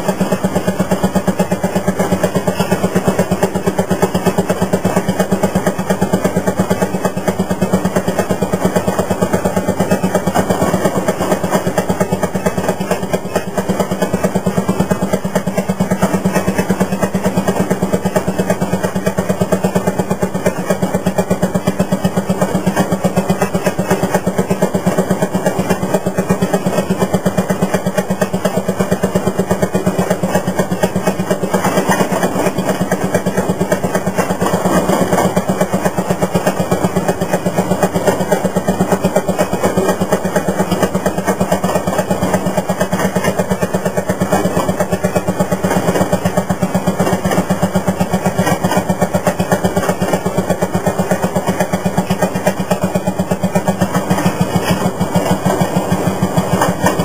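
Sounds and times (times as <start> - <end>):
two-stroke engine putt-putt: 0.0 - 57.0.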